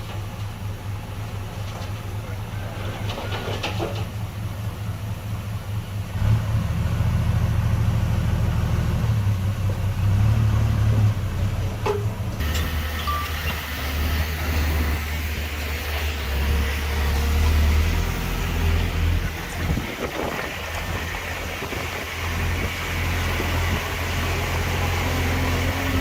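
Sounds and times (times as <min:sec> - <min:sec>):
heavy diesel engine rumbling: 0:00.0 - 0:26.0.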